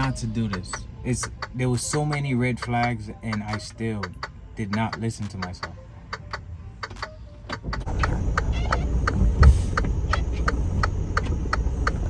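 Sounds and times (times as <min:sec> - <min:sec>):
highway traffic rumble: 0:00.0 - 0:12.0
steady clicking: 0:00.0 - 0:12.0.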